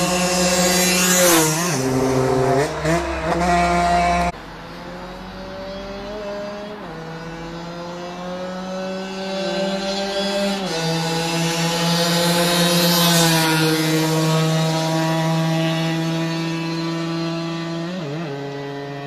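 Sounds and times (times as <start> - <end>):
two-stroke motorcycle revving: 0.0 - 19.0.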